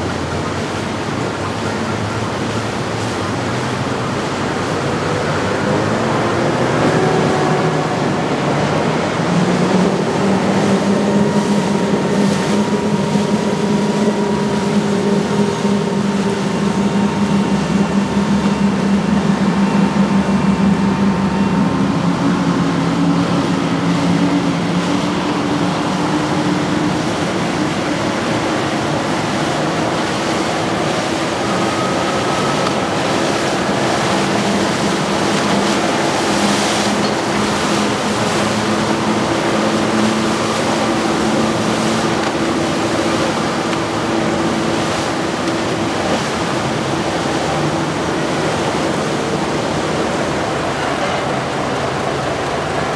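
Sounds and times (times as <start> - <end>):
boat engines droning: 0.0 - 52.9
water rushing from hulls: 0.0 - 52.9.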